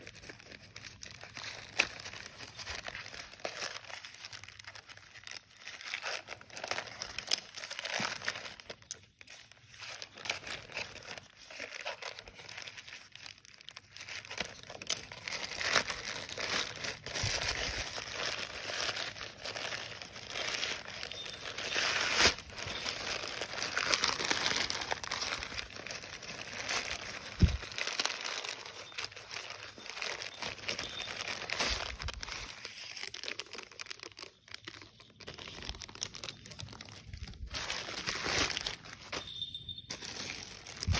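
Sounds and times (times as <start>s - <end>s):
packaging crinkling and rustling: 0.0s - 40.9s.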